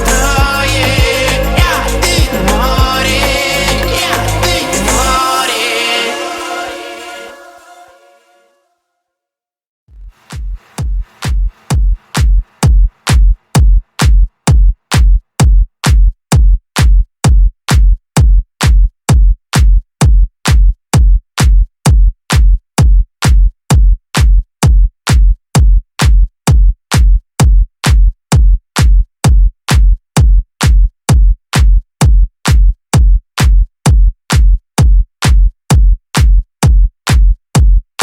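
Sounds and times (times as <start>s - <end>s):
kick drum thumping: 0.0s - 3.1s, 10.0s - 38.0s.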